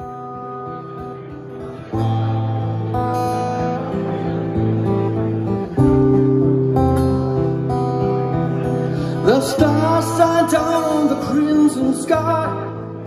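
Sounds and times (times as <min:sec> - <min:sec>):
acoustic guitars strumming chords: 0:00.0 - 0:13.0.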